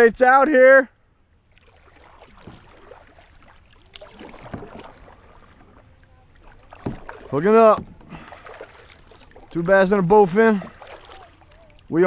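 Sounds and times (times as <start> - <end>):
water lapping: 1.3 - 12.0.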